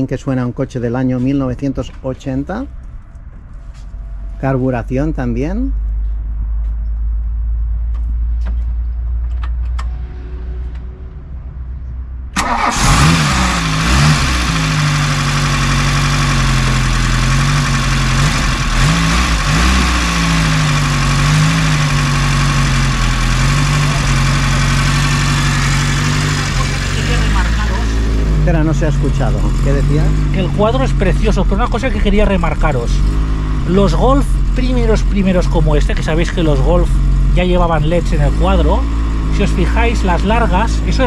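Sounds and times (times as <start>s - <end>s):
car engine starting and idling: 0.0s - 41.0s.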